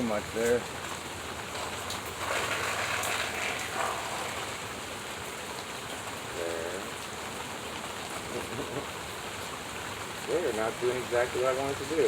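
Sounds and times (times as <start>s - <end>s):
rain falling: 0.0s - 12.0s
water running down downspout: 0.0s - 12.0s.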